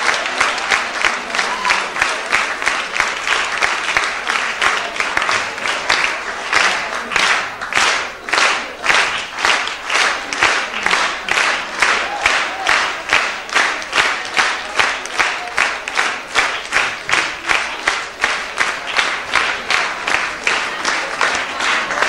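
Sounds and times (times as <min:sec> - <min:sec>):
audience clapping in unison: 0:00.0 - 0:22.0.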